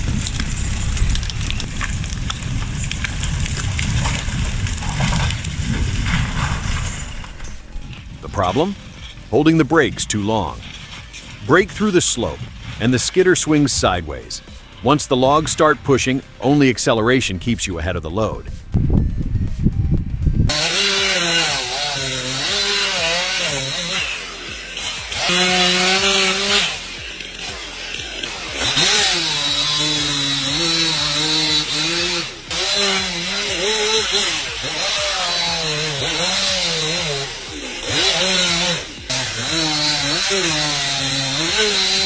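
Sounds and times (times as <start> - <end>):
chainsaw revving while cutting: 0.0 - 17.2, 20.5 - 42.0.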